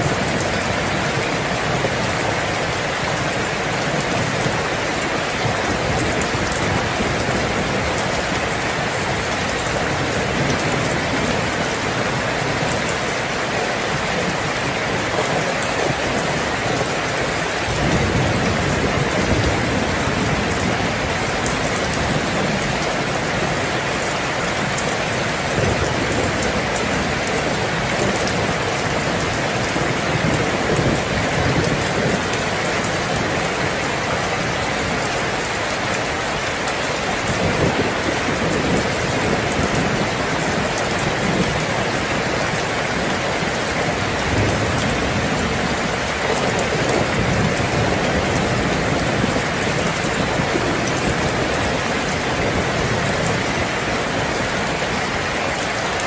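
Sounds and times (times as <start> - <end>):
thunder rumbles: 0.0 - 55.3
heavy rain: 0.0 - 56.0.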